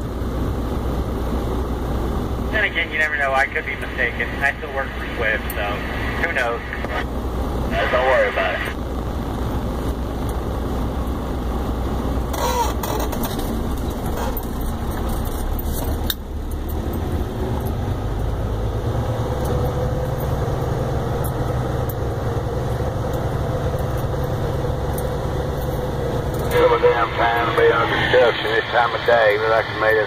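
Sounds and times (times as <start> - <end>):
diesel truck engine drone: 0.0 - 30.0.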